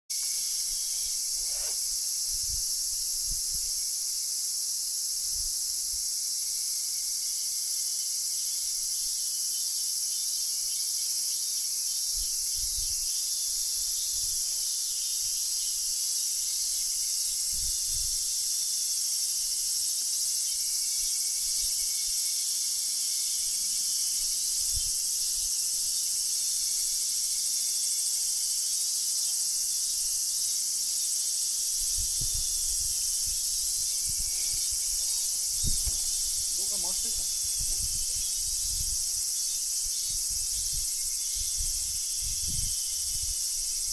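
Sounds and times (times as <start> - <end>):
insects chirring: 0.1 - 43.9.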